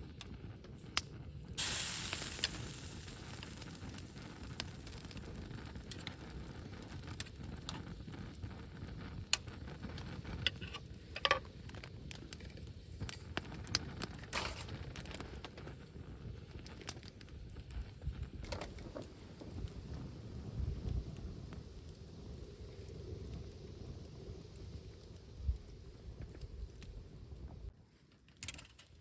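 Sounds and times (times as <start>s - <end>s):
campfire crackling: 0.0s - 27.6s
low rumble of wind: 0.0s - 27.9s
burning wood popping: 0.1s - 27.0s
fire hissing: 0.7s - 27.4s.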